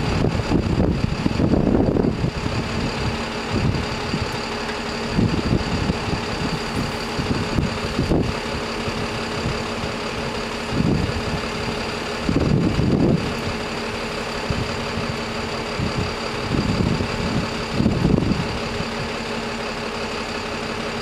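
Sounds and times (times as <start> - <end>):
engine idling: 0.0 - 21.0
low rumbles: 0.0 - 21.0.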